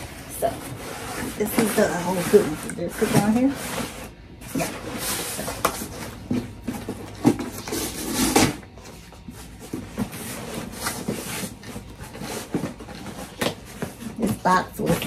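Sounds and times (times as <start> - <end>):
cardboard box scraping and rustling: 0.1 - 15.0.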